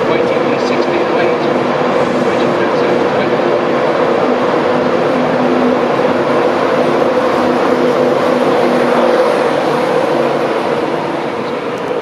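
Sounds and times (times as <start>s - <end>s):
train passing at speed: 0.0s - 12.0s
wheels rumbling on rails: 0.0s - 12.0s.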